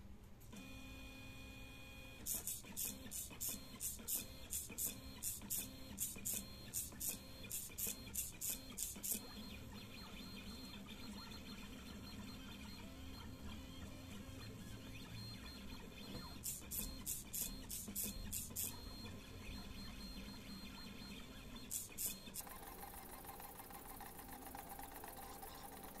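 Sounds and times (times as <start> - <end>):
faint steady whirr: 0.0 - 26.0
pen plotter motors: 2.1 - 26.0.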